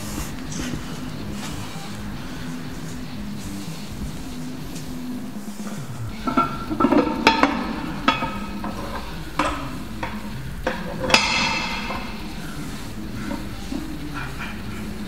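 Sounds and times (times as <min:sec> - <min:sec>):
metal weight plates clanking: 0:00.0 - 0:15.0.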